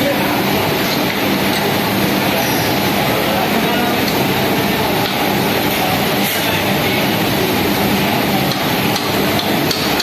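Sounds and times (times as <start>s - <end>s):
industrial laundry machinery running: 0.0s - 10.0s.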